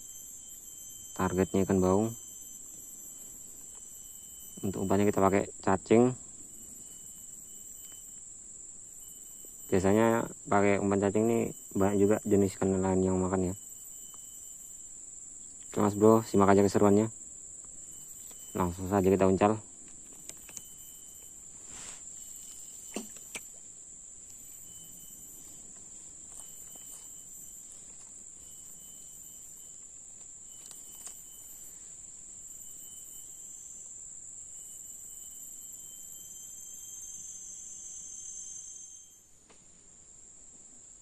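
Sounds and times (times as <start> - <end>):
short high insect notes: 0.0 - 40.5
insect chorus: 0.0 - 41.0.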